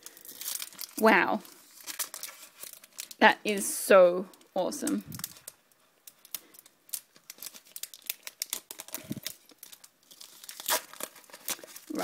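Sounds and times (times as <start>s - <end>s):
foil wrappers crinkling: 0.0s - 3.6s, 4.4s - 12.0s.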